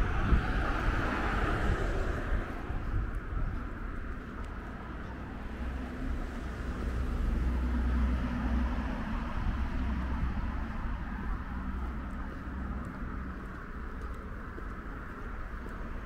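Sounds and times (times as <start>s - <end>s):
passing vehicle rumble and road hiss: 0.0s - 16.0s.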